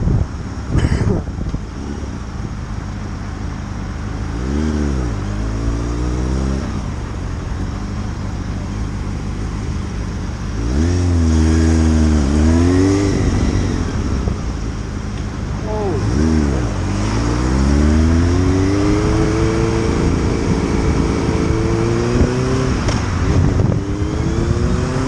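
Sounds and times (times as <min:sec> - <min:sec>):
low road rumble: 0:00.0 - 0:25.0
motorcycle engine accelerating: 0:01.1 - 0:25.0.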